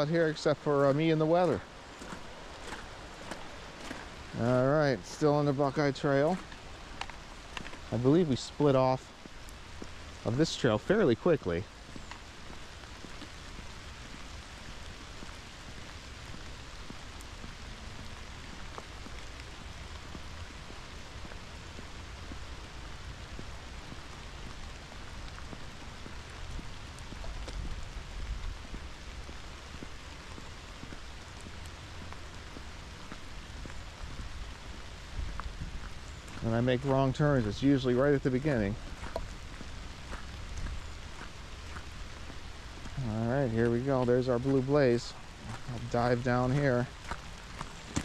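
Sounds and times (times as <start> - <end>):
raindrops ticking close by: 0.0 - 48.0
steady rain falling: 0.0 - 48.0.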